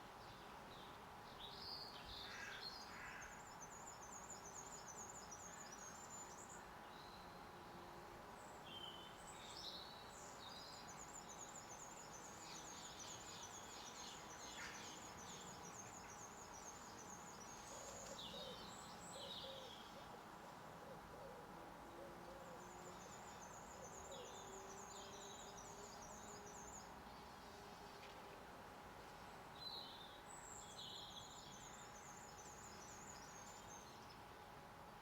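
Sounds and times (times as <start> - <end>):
background hiss: 0.0 - 35.0.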